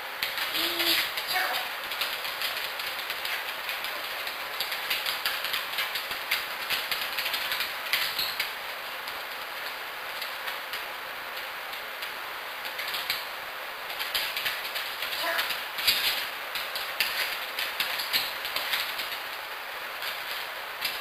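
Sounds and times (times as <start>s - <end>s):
steady hiss: 0.0s - 21.0s
dog claws clicking on hardwood floor: 0.2s - 10.8s, 11.4s - 19.3s, 20.0s - 21.0s.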